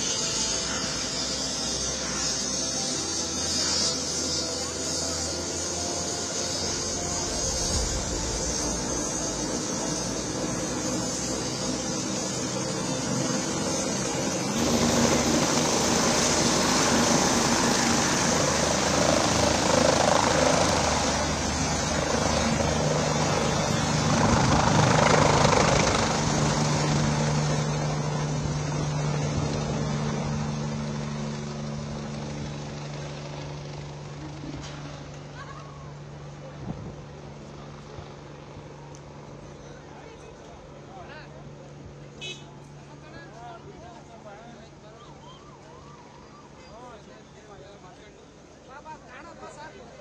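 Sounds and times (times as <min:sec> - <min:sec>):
helicopter engines and rotor: 0:00.0 - 0:50.0.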